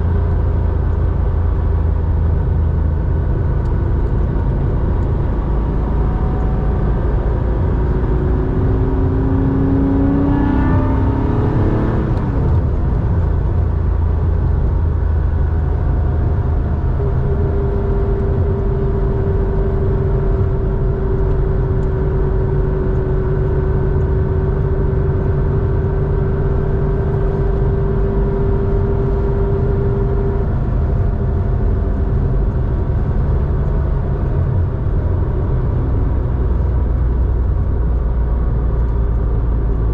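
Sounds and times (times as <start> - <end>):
car engine revving and droning: 0.0 - 39.9.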